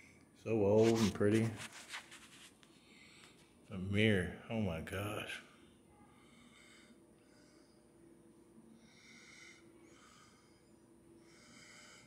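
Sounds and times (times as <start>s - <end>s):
soft breaths close to microphone: 0.0s - 3.8s, 5.2s - 12.0s.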